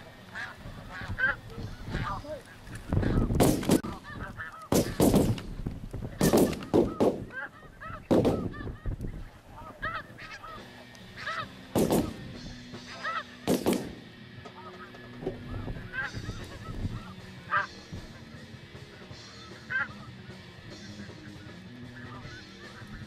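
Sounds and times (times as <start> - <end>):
geese honking: 0.0 - 5.5, 6.2 - 23.0.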